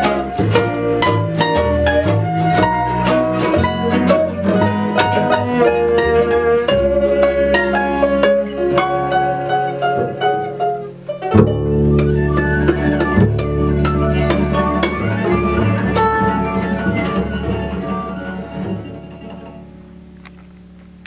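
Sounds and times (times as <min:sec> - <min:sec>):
violin: 0:00.0 - 0:19.9
ukuleles picking and strumming: 0:00.0 - 0:20.7
upright double bass: 0:00.0 - 0:21.0.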